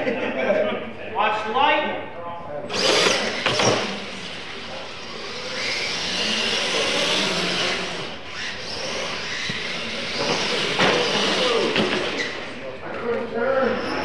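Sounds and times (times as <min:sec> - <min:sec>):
electric motors whining: 0:02.7 - 0:14.0.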